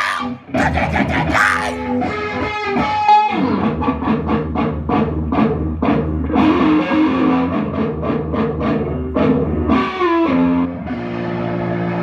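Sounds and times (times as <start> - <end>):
strummed guitar: 0.0 - 12.0.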